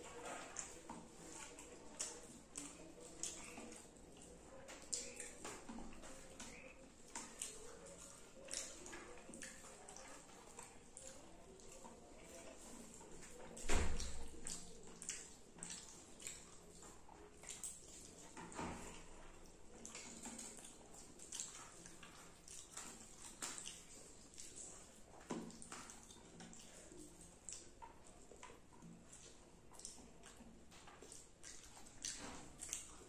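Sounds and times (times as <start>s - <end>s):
wet chewing: 0.0s - 33.0s
lip smacks: 0.1s - 33.0s.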